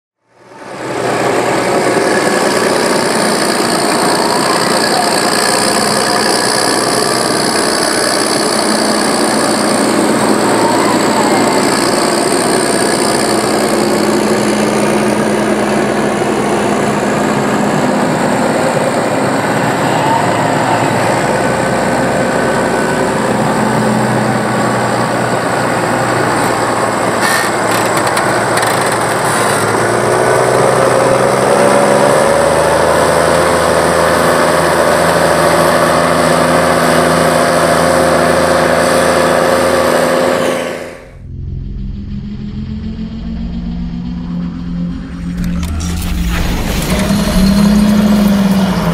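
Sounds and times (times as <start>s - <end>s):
tractor diesel engine running: 0.2s - 48.9s.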